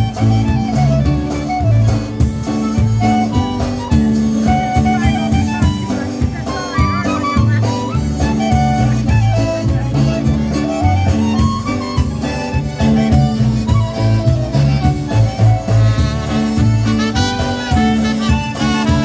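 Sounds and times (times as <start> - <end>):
polka band playing: 0.0 - 19.0.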